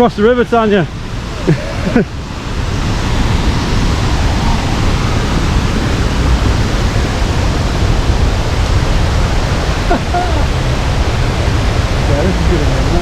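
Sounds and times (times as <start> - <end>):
waterfall rushing: 0.3 - 13.0.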